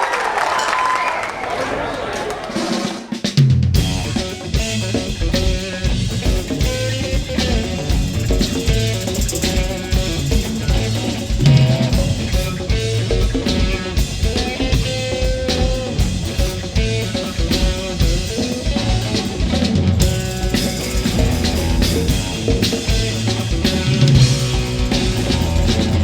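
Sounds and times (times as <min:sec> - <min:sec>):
drum kit beat: 0:02.6 - 0:26.0
bass guitar: 0:03.4 - 0:26.0
electric guitar: 0:03.8 - 0:26.0.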